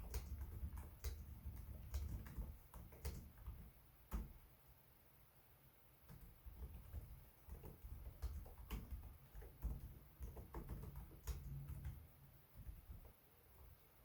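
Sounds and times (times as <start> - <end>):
laptop keyboard typing: 0.0 - 4.4, 6.0 - 13.2.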